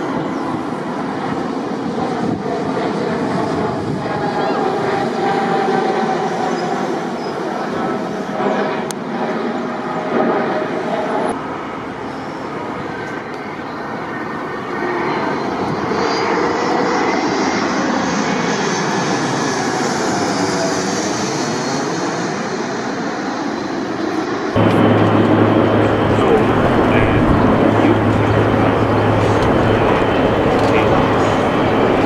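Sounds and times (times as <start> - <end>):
airliner passing low overhead: 0.0 - 32.0
jet engines in flight: 0.0 - 32.0.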